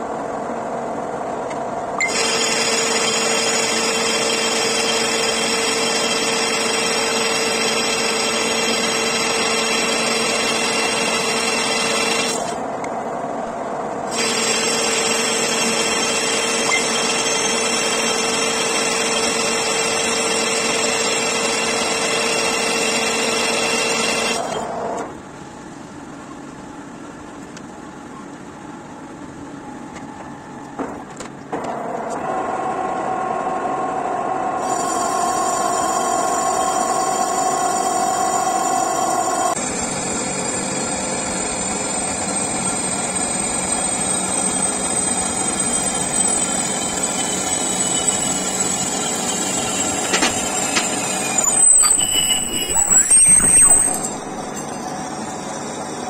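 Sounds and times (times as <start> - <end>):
lathe gears whining: 2.0 - 12.8, 14.0 - 25.2, 31.6 - 56.0.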